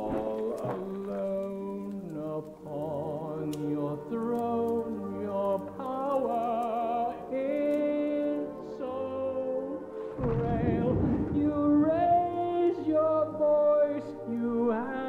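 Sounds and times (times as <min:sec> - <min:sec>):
person singing with vibrato: 0:00.0 - 0:15.0
soft instrumental accompaniment: 0:00.0 - 0:15.0.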